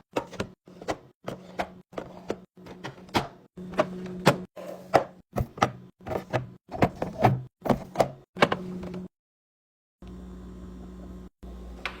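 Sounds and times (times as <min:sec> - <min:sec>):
fridge hum: 0:00.0 - 0:09.1, 0:10.0 - 0:12.0.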